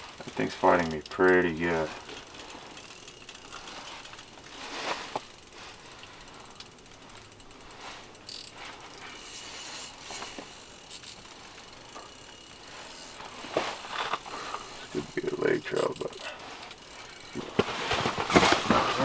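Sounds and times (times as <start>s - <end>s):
fishing reel clicking: 0.0s - 17.6s.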